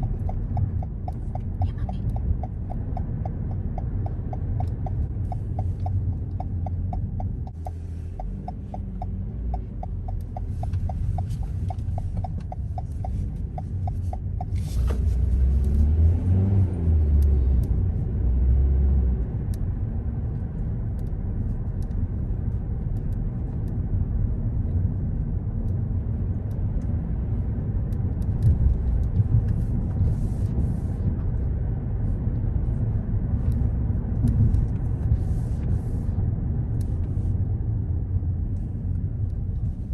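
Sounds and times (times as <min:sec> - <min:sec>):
car engine and road rumble: 0:00.0 - 0:39.9
turn signal ticking: 0:00.0 - 0:39.9.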